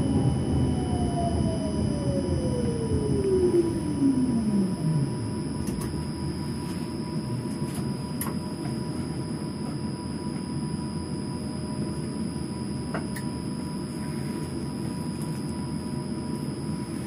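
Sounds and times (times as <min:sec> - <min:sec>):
low rumble and hum in tram: 0:00.0 - 0:17.0.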